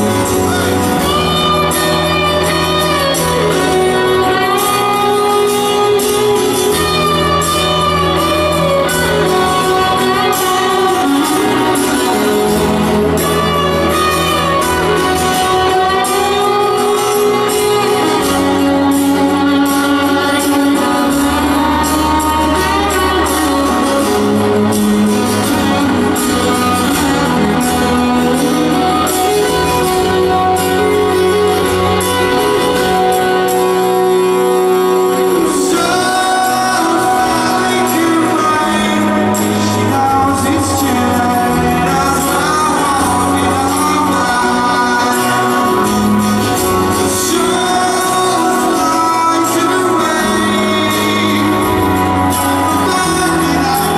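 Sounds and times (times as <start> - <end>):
bass notes: 0.0 - 53.9
live rock band playing: 0.0 - 53.9.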